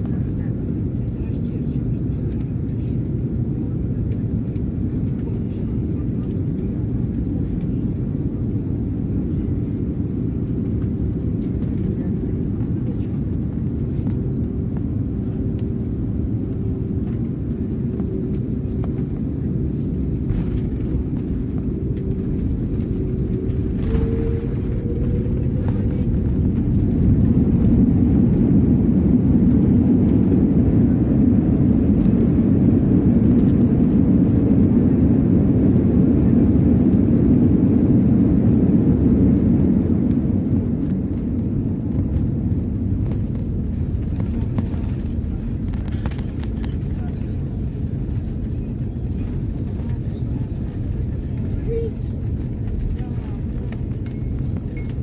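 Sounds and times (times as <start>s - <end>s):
aeroplane rumble: 0.0s - 55.0s.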